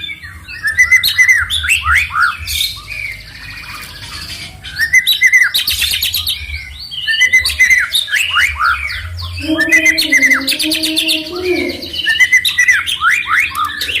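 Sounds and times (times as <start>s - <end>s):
bird singing whistles: 0.0s - 14.0s.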